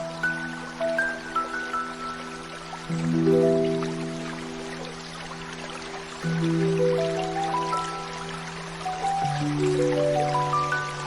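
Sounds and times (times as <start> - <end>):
even hiss: 0.0 - 11.0
gentle ambient music: 0.0 - 11.0.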